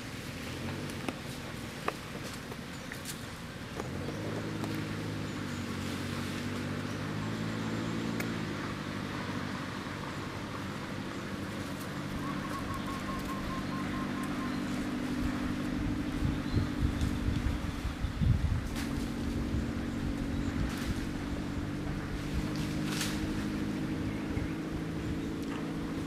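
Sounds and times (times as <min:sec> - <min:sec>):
motor engine running: 0:00.0 - 0:26.0
outdoor background noise: 0:00.0 - 0:26.0.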